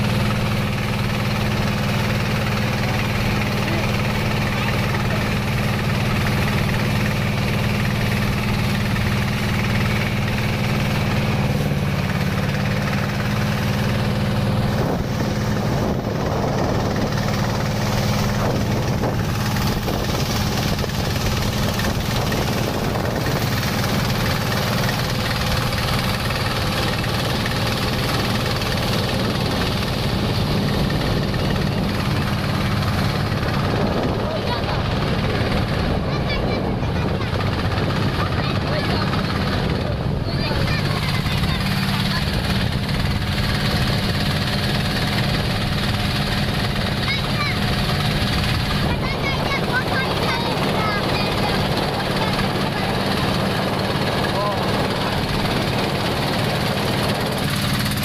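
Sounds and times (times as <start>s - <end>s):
boat engine humming: 0.0s - 58.0s
water rushing along hull: 0.0s - 58.0s.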